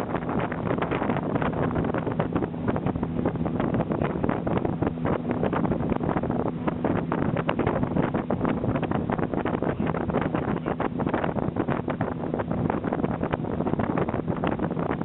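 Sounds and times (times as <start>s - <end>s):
engine running steadily: 0.0s - 15.0s
wind buffeting microphone: 0.0s - 15.0s.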